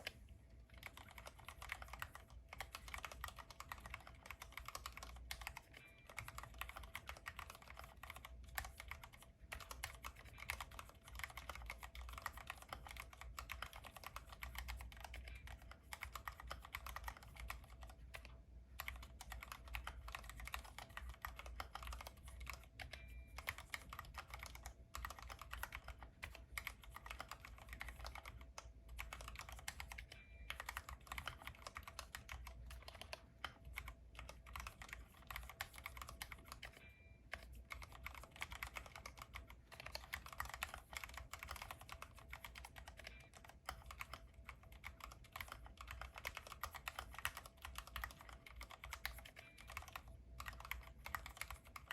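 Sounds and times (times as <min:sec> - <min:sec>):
mechanical keyboard typing: 0:00.0 - 0:51.9.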